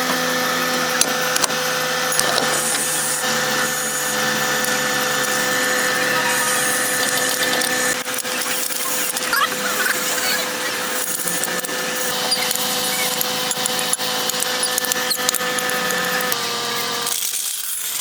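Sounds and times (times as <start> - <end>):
power tool motor whine: 0.0 - 18.0.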